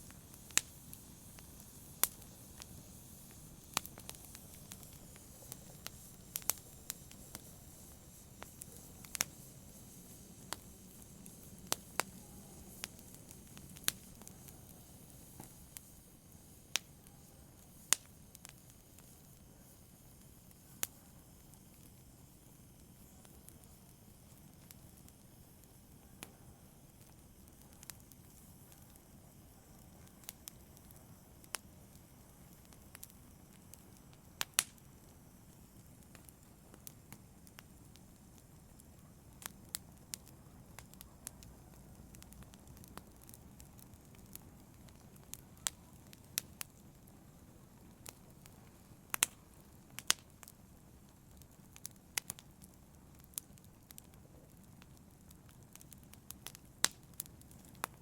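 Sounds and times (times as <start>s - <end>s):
fire flames rumbling: 0.0s - 16.8s, 26.6s - 58.0s
fire crackling and popping: 0.0s - 58.0s.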